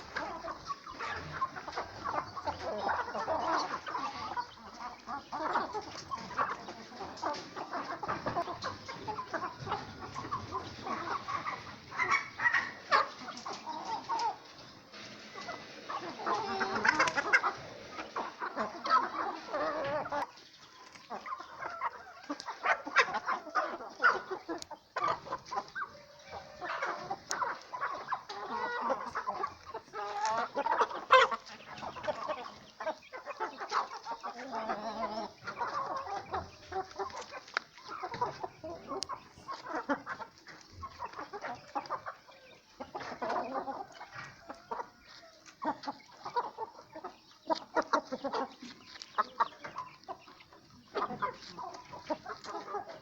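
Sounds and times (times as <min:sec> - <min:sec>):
hens and roosters clucking: 0:00.0 - 0:53.0.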